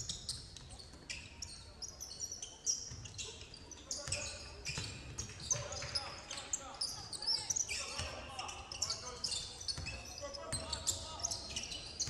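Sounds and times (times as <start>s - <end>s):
sneakers squeaking on court: 0.0s - 12.0s.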